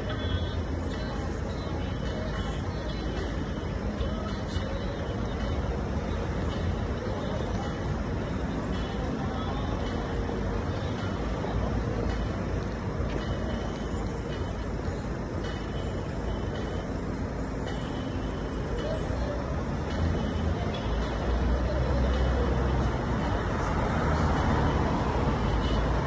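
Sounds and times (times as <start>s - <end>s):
low traffic rumble: 0.0s - 26.0s.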